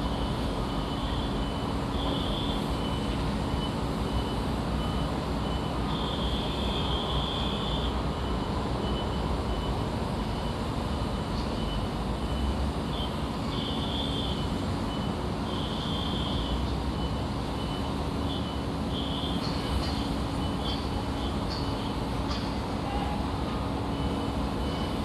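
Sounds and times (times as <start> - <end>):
heavy machinery engines: 0.1 - 25.0.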